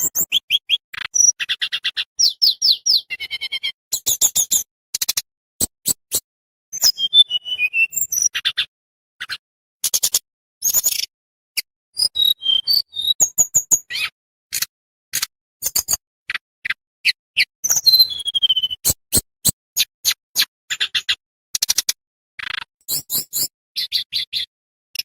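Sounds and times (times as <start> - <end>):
songbird clicking and whistling: 0.0 - 8.7, 9.3 - 25.0.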